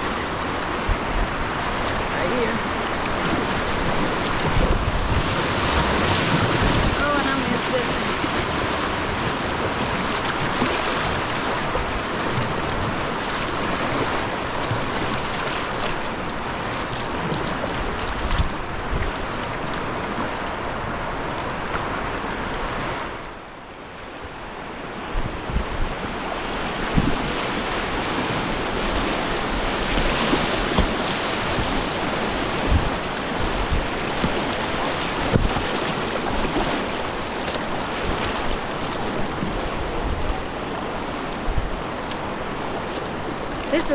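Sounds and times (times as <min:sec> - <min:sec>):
wind buffeting microphone: 0:00.0 - 0:23.3, 0:24.1 - 0:43.9
whitewater rapids rushing: 0:00.0 - 0:43.9.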